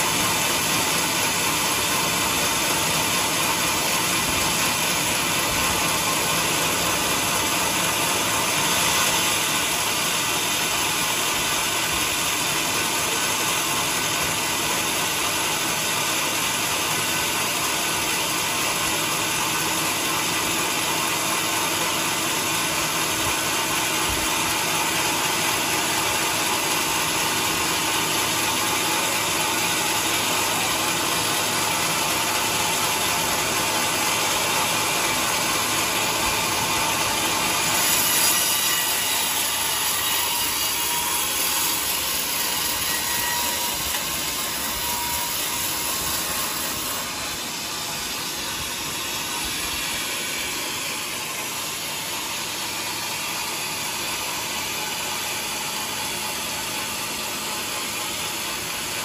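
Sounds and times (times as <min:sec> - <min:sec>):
band sawmill sawing log: 0:00.0 - 0:59.0.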